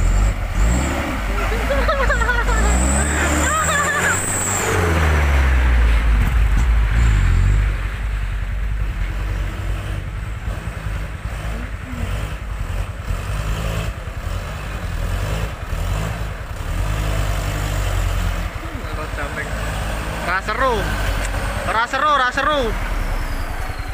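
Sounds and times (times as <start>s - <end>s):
truck diesel engine: 0.0s - 23.9s.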